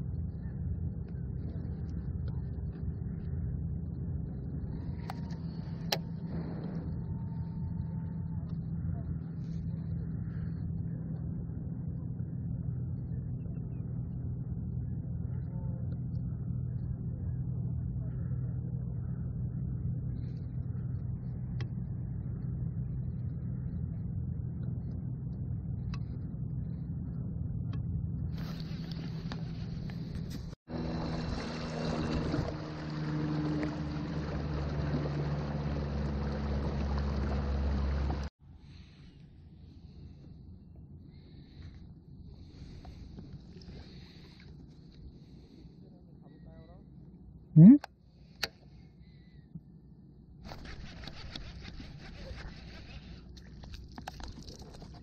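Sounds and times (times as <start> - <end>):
small boat motor humming: 0.0 - 55.0.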